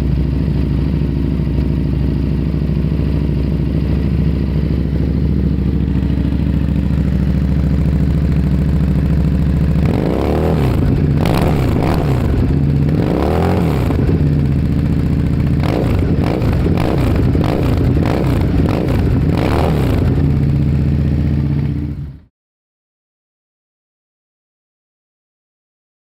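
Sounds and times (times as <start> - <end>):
motorcycle engine idling and revving: 0.0 - 22.3.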